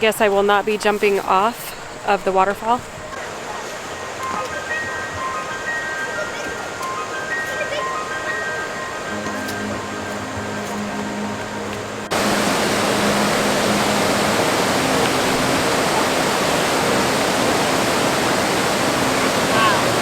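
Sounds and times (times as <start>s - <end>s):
waterfall rushing: 1.7s - 20.0s
music with held notes: 3.2s - 20.0s.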